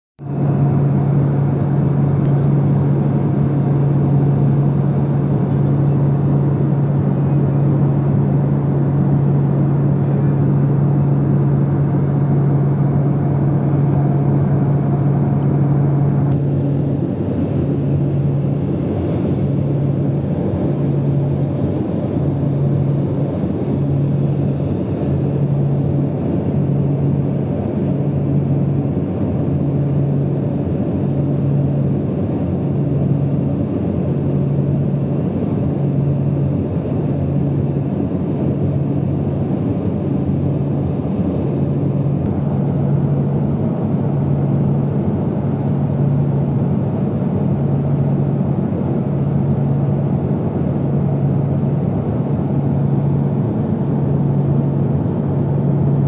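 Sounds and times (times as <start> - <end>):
engine drone with low hum: 0.2 - 56.0.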